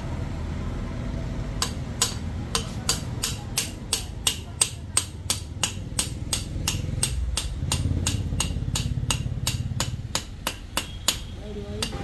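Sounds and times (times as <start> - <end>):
metal-on-metal hammering: 1.5 - 12.0.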